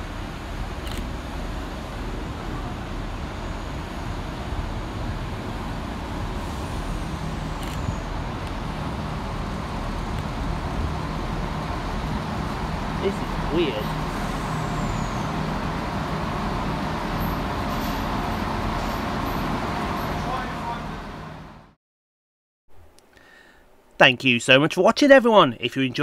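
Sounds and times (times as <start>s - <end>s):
diesel train rumbling: 0.0s - 21.8s.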